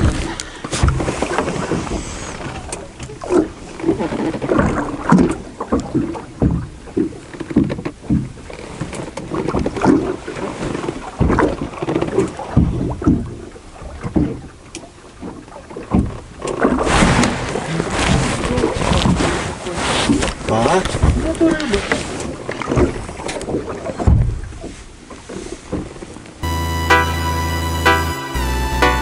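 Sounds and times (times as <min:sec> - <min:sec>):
water slapping against boat: 0:00.0 - 0:26.4.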